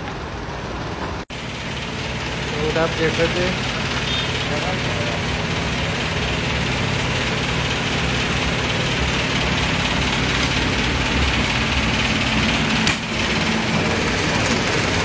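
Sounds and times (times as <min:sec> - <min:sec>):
machine drone with hiss: 0:00.0 - 0:15.0.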